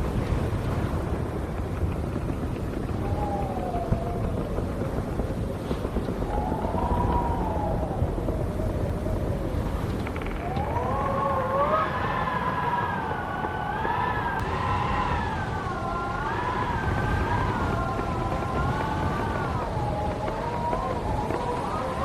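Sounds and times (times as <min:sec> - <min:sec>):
low rush of wind noise: 0:00.0 - 0:22.0
wind howling: 0:00.0 - 0:22.0.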